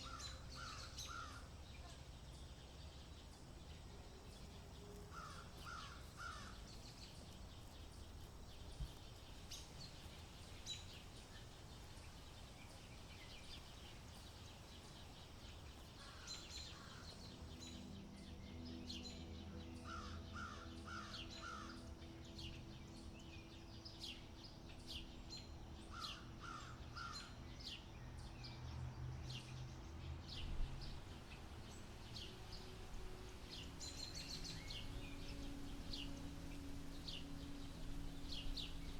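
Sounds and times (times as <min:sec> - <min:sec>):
low steady hum: 0:00.0 - 0:38.9
small birds chirping: 0:00.0 - 0:38.9.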